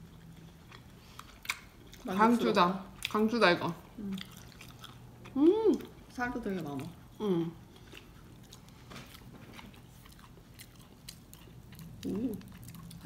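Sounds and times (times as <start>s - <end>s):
chewing crispy food: 0.0s - 13.0s.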